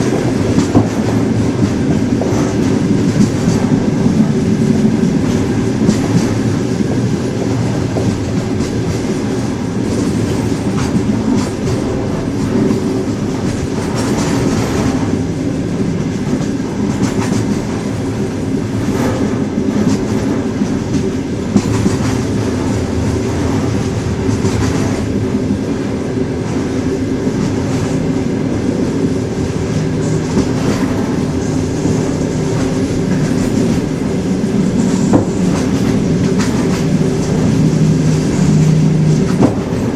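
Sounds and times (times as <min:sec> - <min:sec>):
wheels clacking over rail joint: 0:00.0 - 0:25.2, 0:26.4 - 0:39.9
train wheels rumbling on rails: 0:00.0 - 0:39.9.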